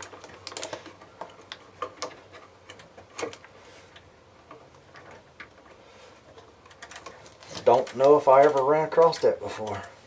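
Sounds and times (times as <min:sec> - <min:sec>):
tools and wires clicking: 0:00.0 - 0:10.0.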